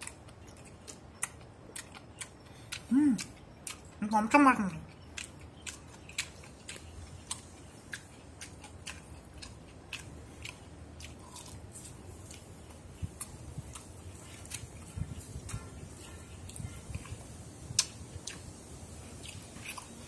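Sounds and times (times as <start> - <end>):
person chewing rice: 0.0 - 4.0, 4.9 - 20.0.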